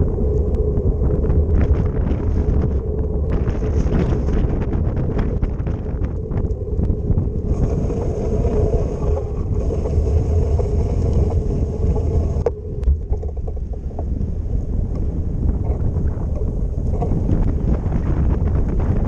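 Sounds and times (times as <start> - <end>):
bicycle riding rumble: 0.0 - 19.0
wind buffeting microphone: 0.0 - 19.0.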